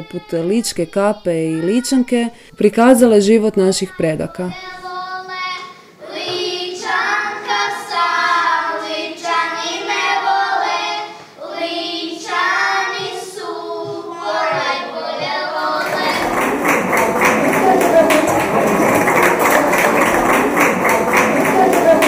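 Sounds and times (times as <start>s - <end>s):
girls singing together: 4.3s - 22.0s.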